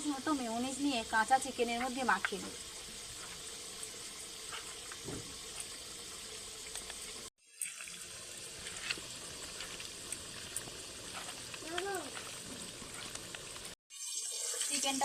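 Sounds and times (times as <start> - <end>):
potatoes sizzling in oil: 0.0 - 15.0.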